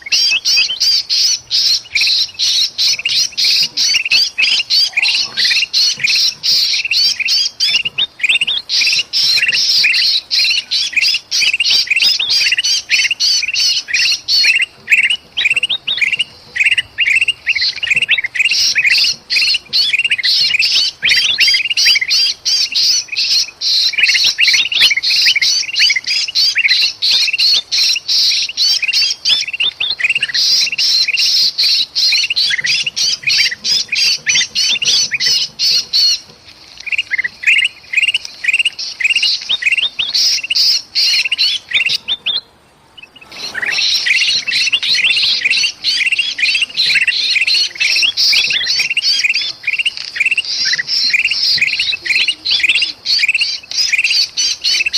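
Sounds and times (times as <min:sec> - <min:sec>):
bird distress calls: 0:00.0 - 0:54.9
birds chattering harshly: 0:00.0 - 0:54.9.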